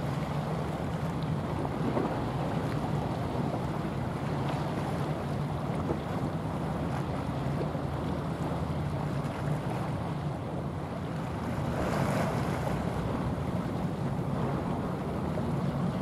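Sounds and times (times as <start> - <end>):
ship engine drone: 0.0 - 16.0.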